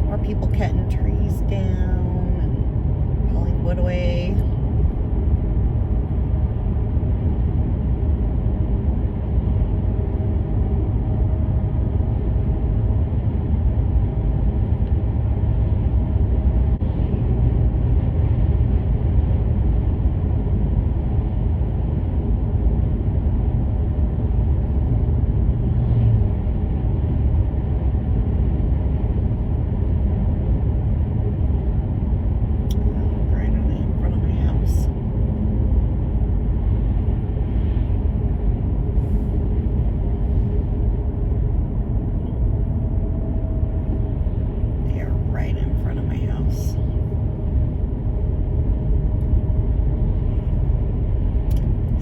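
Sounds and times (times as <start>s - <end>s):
road and engine noise inside car: 0.0s - 52.0s.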